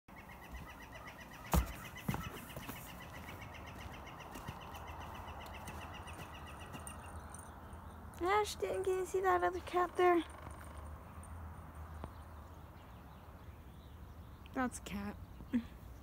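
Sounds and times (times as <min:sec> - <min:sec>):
bird chirping: 0:00.1 - 0:16.0.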